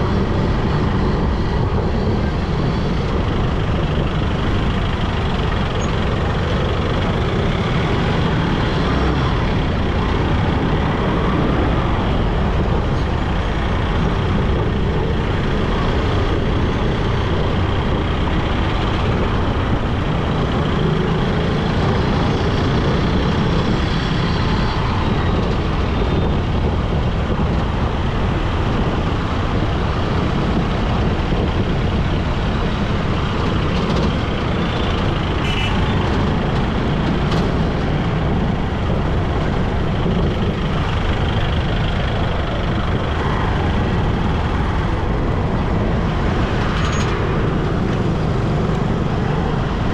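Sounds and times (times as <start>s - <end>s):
motorcycle road noise: 0.0s - 49.9s
passing trucks and buses: 0.0s - 49.9s.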